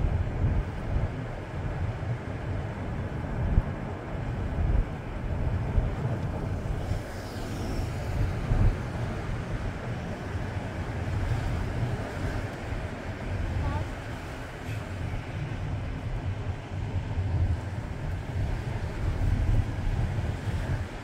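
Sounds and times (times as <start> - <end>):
road rumble: 0.0 - 21.0
wind buffeting microphone: 0.0 - 21.0.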